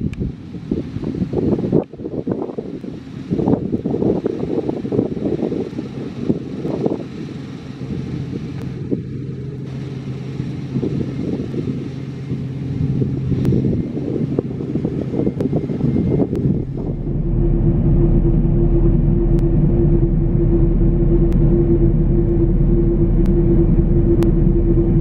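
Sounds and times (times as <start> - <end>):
wind buffeting microphone: 0.0 - 25.0
combine harvester running: 2.8 - 25.0.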